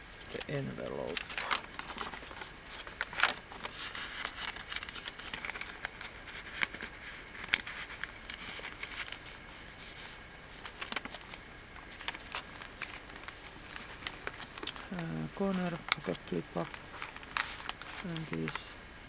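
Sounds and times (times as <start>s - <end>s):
stiff paper rustling: 0.2s - 18.7s.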